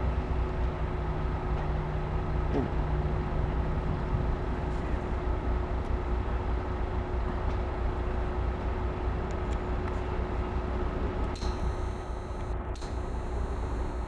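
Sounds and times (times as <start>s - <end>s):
freight train rumbling: 0.0s - 11.4s
electric locomotive hum: 0.0s - 14.0s.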